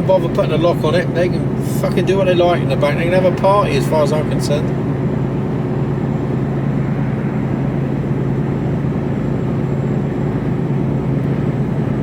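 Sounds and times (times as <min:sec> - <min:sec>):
diesel engine low drone: 0:00.0 - 0:12.0
road noise: 0:00.0 - 0:12.0.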